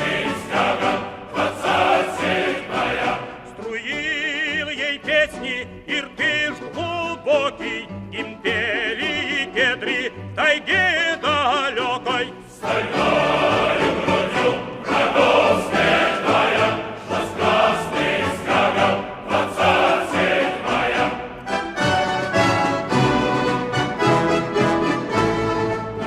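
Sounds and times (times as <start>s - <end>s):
orchestral music: 0.0s - 26.0s.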